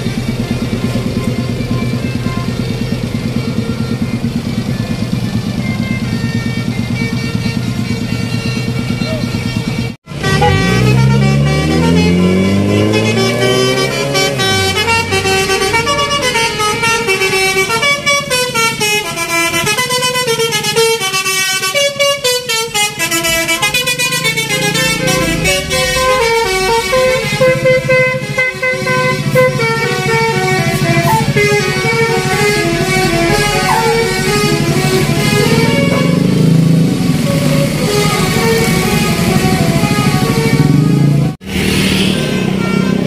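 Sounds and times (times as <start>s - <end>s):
bus musical horn: 0.0s - 43.0s.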